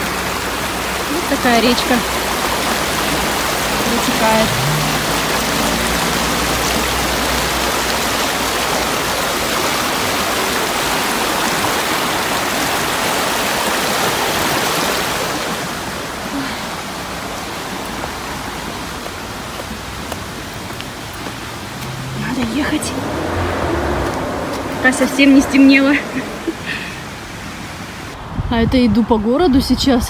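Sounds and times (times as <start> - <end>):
river rushing over stones: 0.0 - 28.2.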